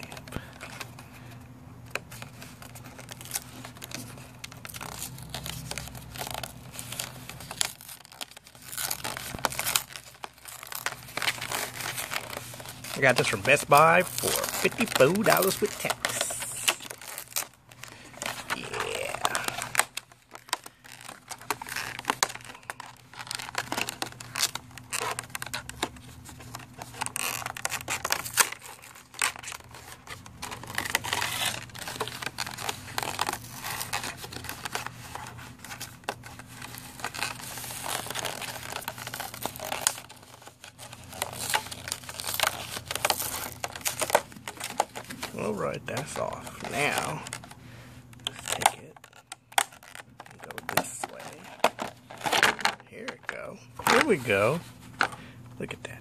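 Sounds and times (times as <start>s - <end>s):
plastic packaging crinkling and tearing: 0.0s - 56.0s.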